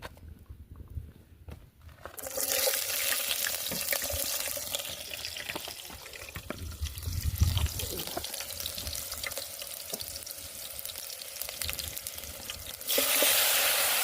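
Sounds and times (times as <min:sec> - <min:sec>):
food sizzling in hot oil: 0:02.2 - 0:14.0.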